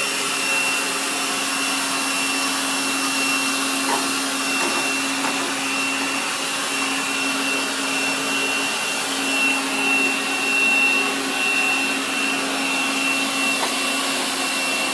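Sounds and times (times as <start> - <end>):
robot vacuum running: 0.0 - 14.9.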